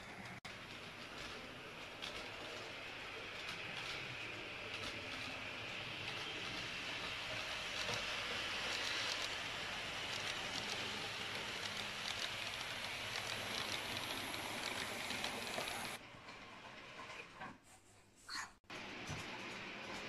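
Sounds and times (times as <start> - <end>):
model train whirring on track: 0.0 - 16.9
wheels clicking on rails: 0.0 - 17.6.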